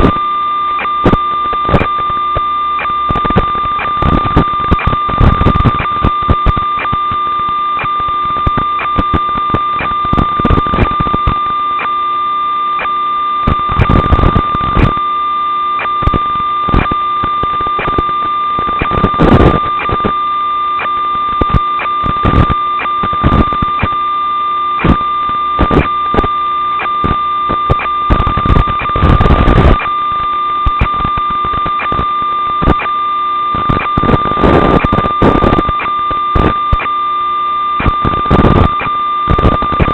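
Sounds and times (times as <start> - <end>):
crackling static: 0.0 - 39.9
high electronic whine: 0.0 - 39.9.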